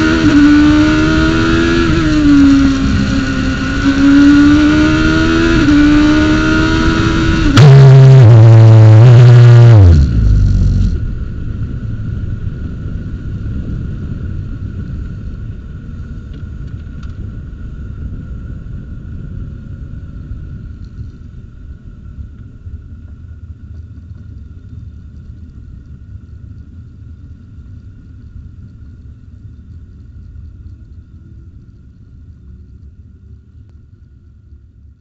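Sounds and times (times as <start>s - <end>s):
faint high whine: 0.0s - 35.0s.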